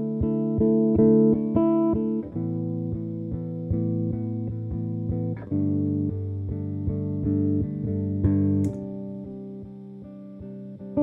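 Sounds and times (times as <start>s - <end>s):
electric bass guitar with effects: 0.0s - 11.0s.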